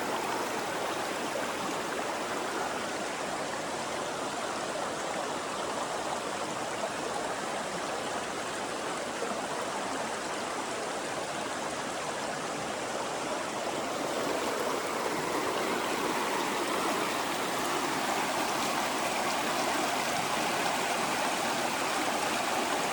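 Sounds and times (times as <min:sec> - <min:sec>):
river water rushing over rocks: 0:00.0 - 0:22.9.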